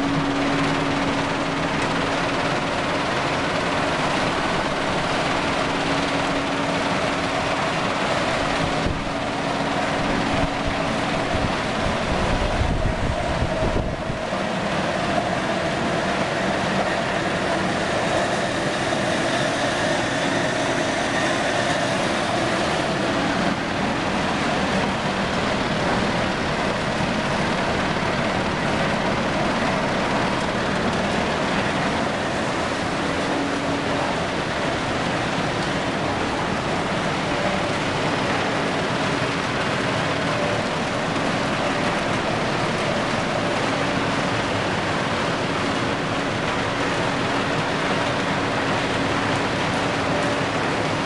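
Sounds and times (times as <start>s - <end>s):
processing machinery running: 0.0s - 51.0s.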